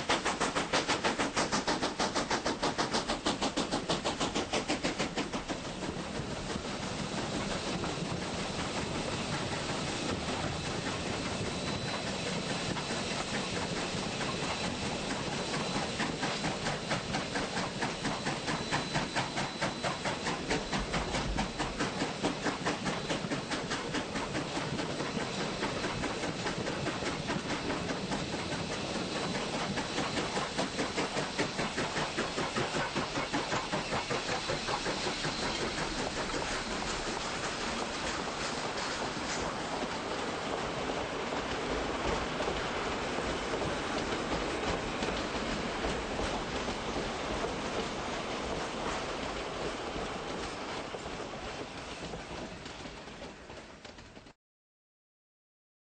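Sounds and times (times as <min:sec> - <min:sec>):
train rushing hiss: 0:00.0 - 0:54.4.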